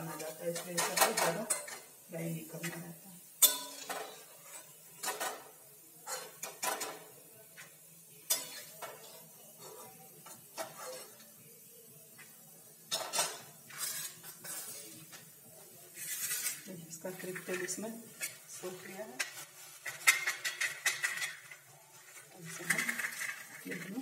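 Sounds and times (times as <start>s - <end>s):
metal spoon scraping a pan: 0.0s - 24.0s.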